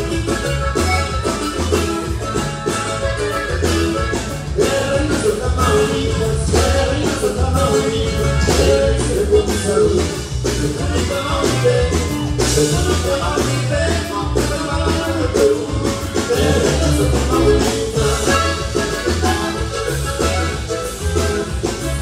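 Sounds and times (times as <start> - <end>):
bass line: 0.0 - 22.0
button accordion: 0.0 - 22.0
drum beat: 0.0 - 22.0
guitar: 0.0 - 22.0.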